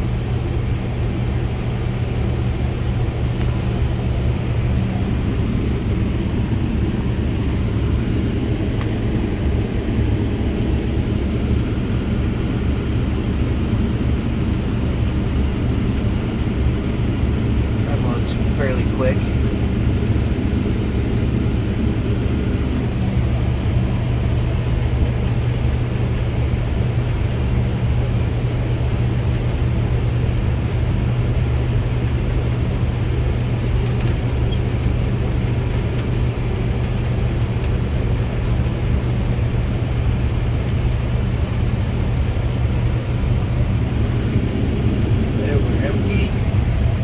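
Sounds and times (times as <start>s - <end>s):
combine harvester engine hum: 0.0s - 47.0s.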